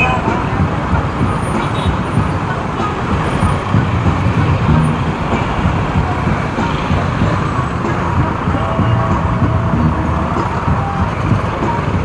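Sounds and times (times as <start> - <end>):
road and traffic rumble: 0.0 - 12.0.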